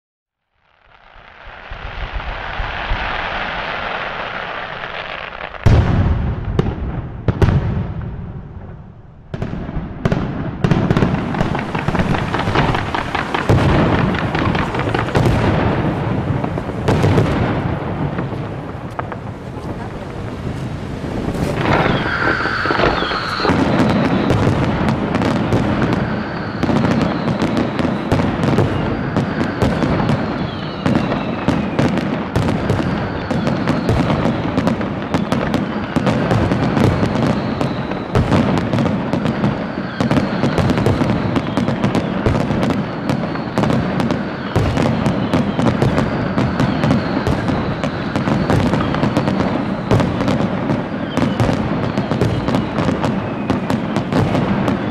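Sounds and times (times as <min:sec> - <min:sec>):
fireworks crackling and popping: 0:00.4 - 0:54.9
high firework whistle: 0:10.9 - 0:54.9.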